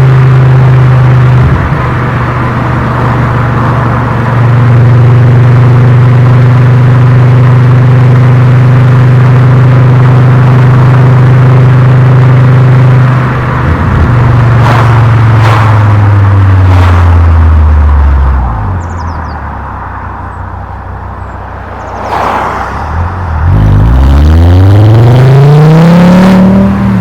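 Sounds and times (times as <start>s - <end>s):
car engine exhaust drone: 0.0s - 27.0s.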